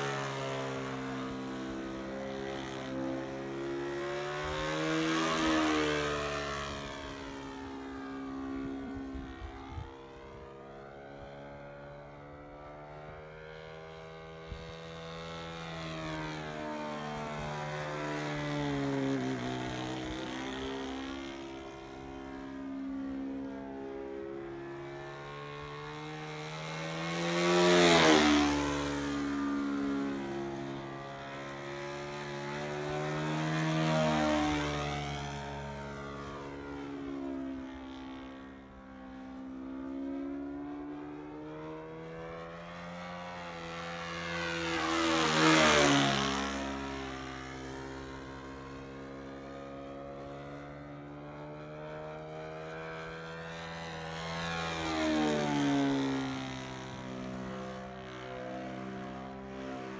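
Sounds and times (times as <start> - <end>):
model airplane engine: 0.0 - 59.9.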